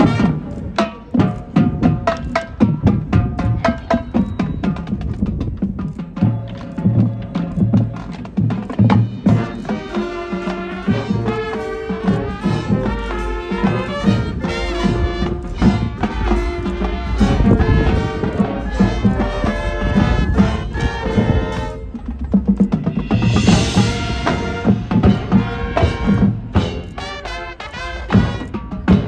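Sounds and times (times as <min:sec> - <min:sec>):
heavy rhythmic drum hits: 0:00.0 - 0:29.0
marching band playing: 0:00.0 - 0:29.0.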